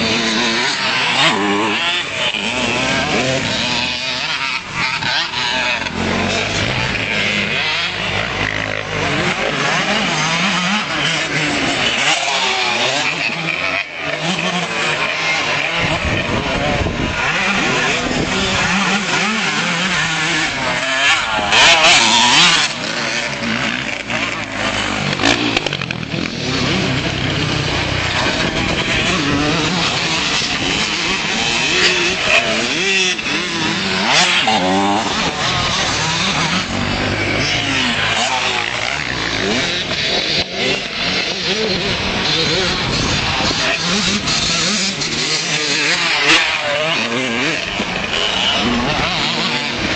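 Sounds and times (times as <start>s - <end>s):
motocross bike engines revving: 0.0s - 49.9s.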